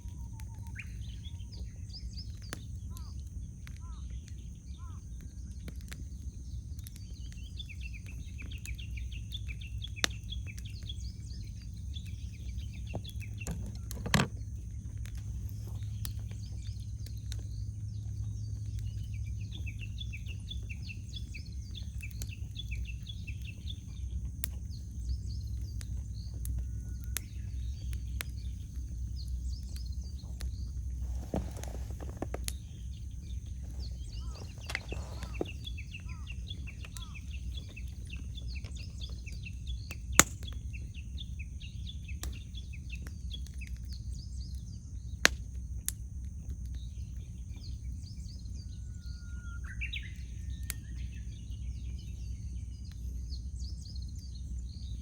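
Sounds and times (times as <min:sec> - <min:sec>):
campfire crackling and popping: 0:00.0 - 0:55.0
small birds chirping: 0:00.0 - 0:55.0.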